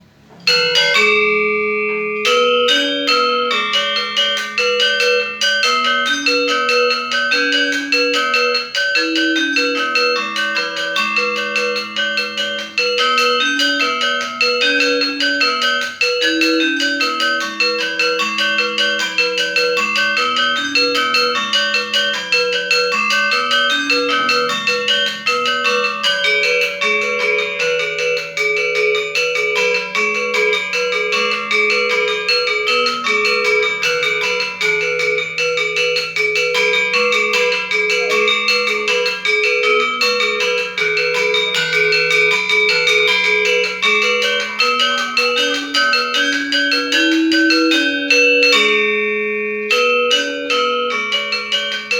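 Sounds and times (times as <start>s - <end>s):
bronze metallophone struck with mallets: 0.0s - 51.9s.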